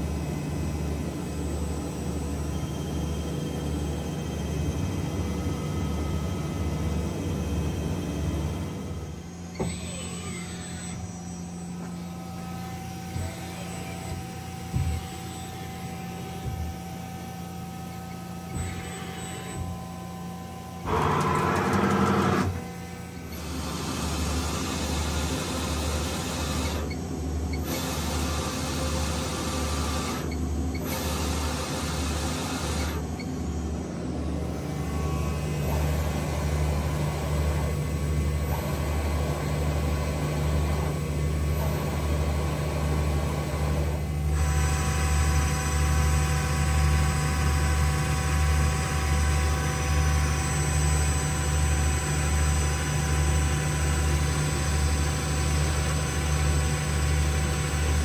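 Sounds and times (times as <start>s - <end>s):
steady machine tones: 0.0s - 47.8s
higher machine hum: 0.0s - 58.0s
lathe low pulsing hum: 0.0s - 58.0s.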